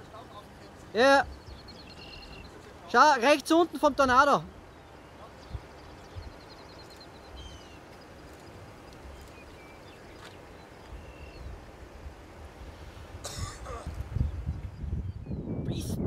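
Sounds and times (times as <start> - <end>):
birds chirping and trilling: 0.0 - 11.8, 13.2 - 15.8.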